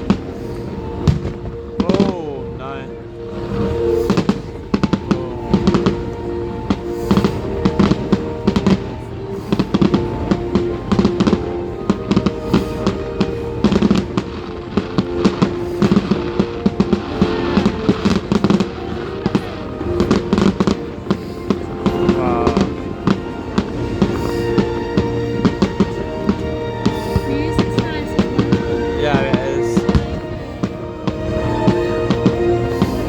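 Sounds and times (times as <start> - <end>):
fireworks bangs and crackles: 0.0 - 33.0
music playing: 0.0 - 33.0.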